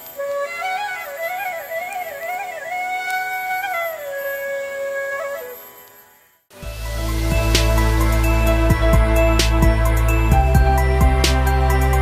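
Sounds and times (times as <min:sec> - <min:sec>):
solo flute melody: 0:00.0 - 0:12.0.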